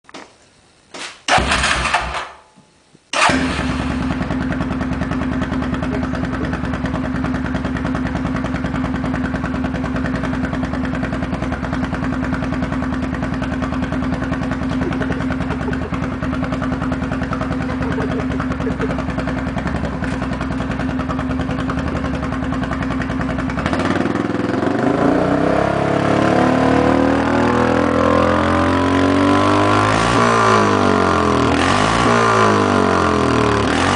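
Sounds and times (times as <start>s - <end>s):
atv engine idling and revving: 3.2s - 33.9s.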